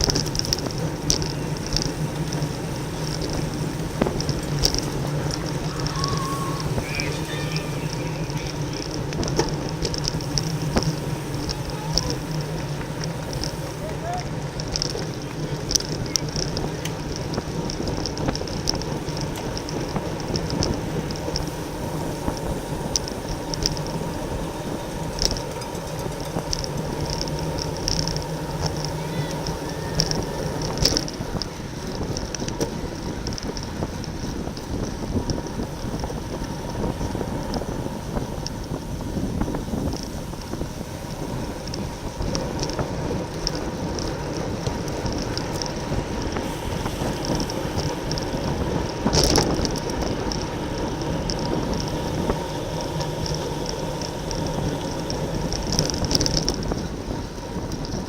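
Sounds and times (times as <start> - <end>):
bicycle tyre and drivetrain noise: 0.0 - 58.0
wind over microphone: 0.0 - 58.0.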